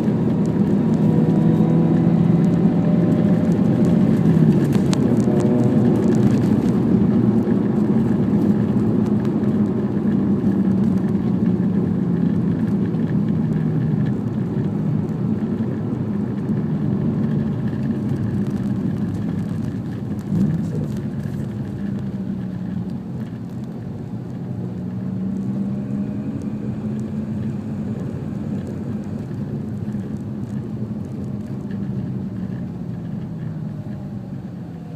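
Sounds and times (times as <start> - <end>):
road noise: 0.0 - 34.9
rotary engine from inside car: 0.0 - 34.9.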